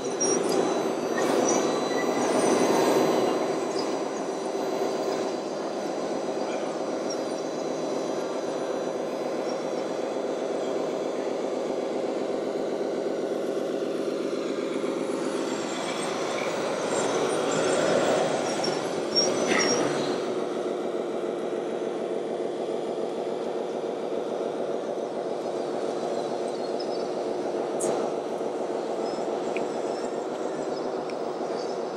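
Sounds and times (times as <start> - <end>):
simulated diesel engine sound: 0.0 - 31.9.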